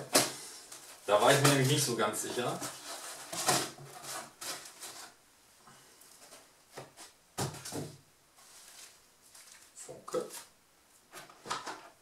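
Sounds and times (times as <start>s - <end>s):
plastic wrapping rustling: 0.0s - 5.2s, 6.0s - 10.5s.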